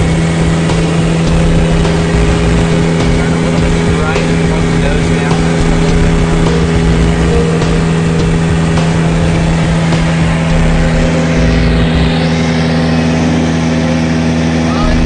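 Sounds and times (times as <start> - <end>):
propeller airplane engine drone: 0.0 - 15.0.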